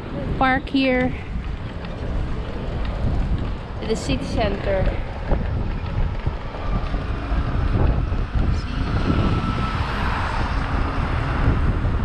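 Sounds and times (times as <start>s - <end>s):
vehicle noise: 0.0s - 12.0s
wind buffeting microphone: 0.0s - 12.0s.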